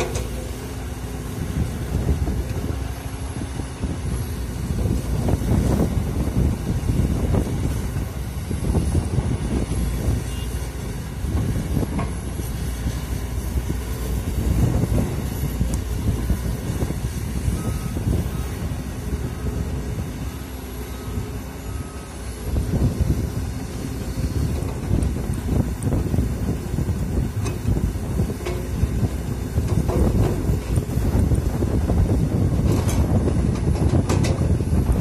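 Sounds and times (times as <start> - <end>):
excavator diesel engine rumbling: 0.0 - 35.0.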